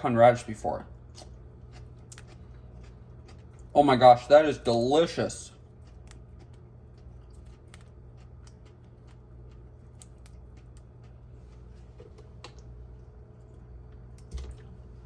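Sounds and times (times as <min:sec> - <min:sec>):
steady low hum: 0:00.0 - 0:15.0
light clicks and crackles of food handling: 0:01.1 - 0:14.8.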